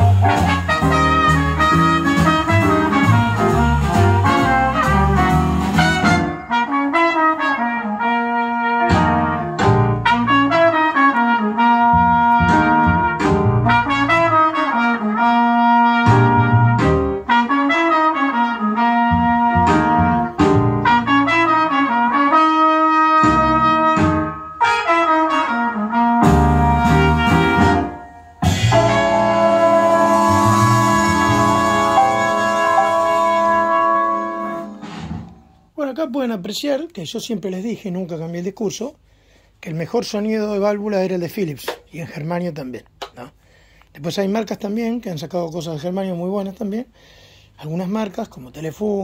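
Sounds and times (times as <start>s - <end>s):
jazz with horn melody and bass: 0.0s - 36.7s, 44.2s - 46.8s.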